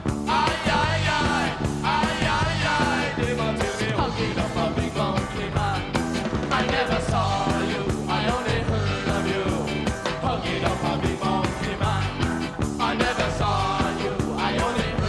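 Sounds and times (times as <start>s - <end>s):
reggae music: 0.0s - 15.0s.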